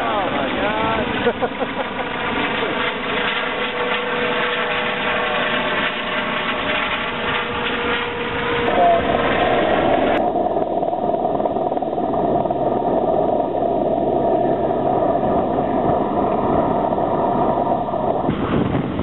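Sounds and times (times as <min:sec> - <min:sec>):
helicopter turbine whine: 0:00.0 - 0:19.0
rotor and downwash noise: 0:00.0 - 0:19.0.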